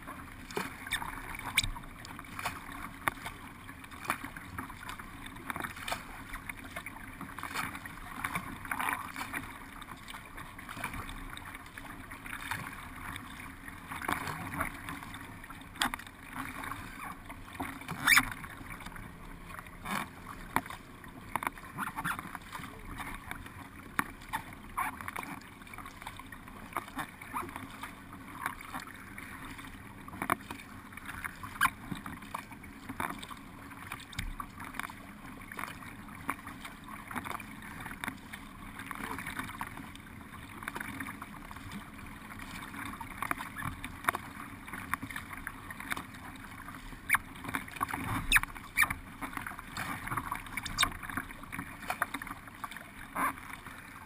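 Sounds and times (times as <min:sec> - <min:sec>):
paddle strokes in water: 0:00.0 - 0:54.0
water rushing along hull: 0:00.0 - 0:54.0
water splashes and drips: 0:00.4 - 0:54.0.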